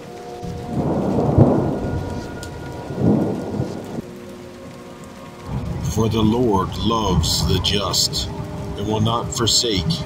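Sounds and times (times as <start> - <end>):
steady rain: 0.0 - 10.0
thunder rumbling: 0.0 - 10.0.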